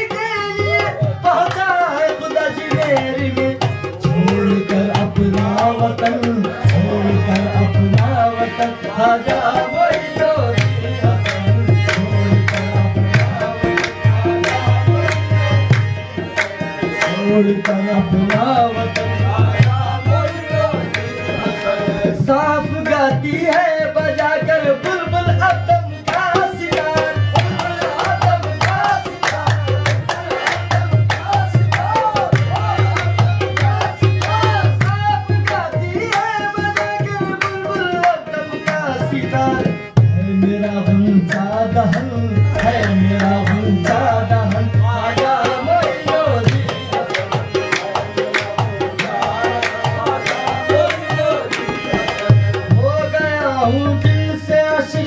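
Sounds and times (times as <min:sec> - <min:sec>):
people singing: 0:00.0 - 0:55.0
tabla drumming: 0:00.0 - 0:55.0.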